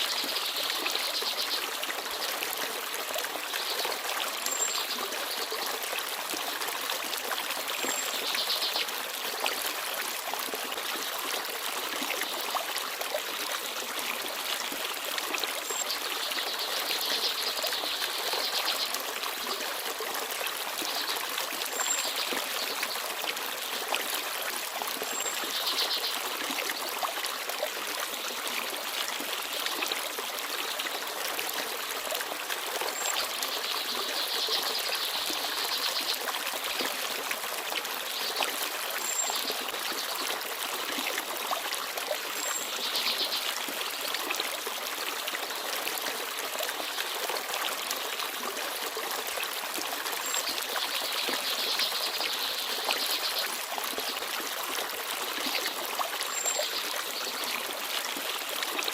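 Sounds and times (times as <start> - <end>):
stream babbling and trickling: 0.0 - 58.9.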